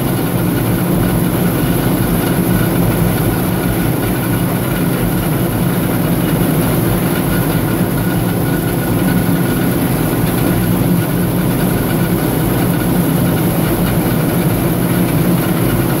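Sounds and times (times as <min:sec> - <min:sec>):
farm machinery running: 0:00.0 - 0:16.0.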